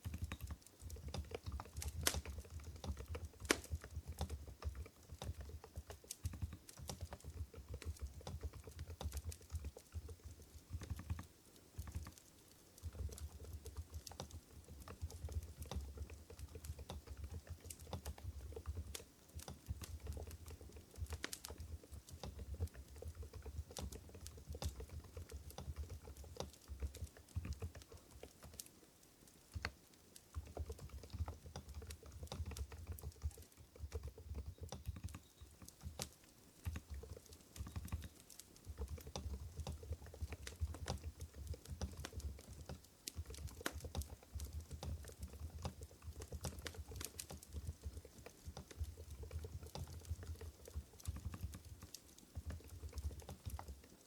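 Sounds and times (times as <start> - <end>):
quiet keyboard keystrokes: 0.0 - 54.0.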